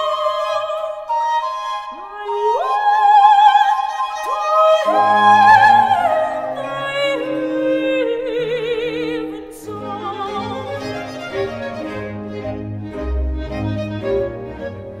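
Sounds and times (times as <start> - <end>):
soprano singing: 0.0 - 15.0
string orchestra: 0.0 - 15.0.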